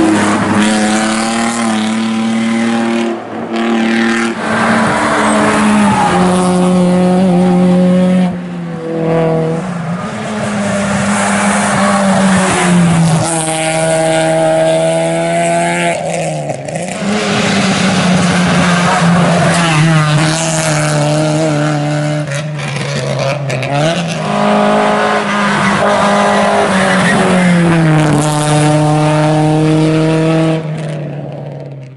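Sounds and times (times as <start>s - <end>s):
rally car engines revving: 0.0s - 31.9s.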